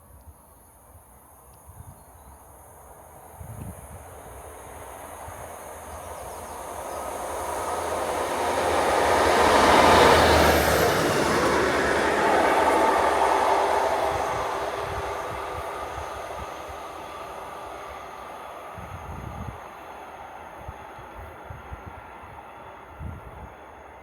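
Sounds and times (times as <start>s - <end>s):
diesel train rumbling on rails: 2.6s - 24.0s.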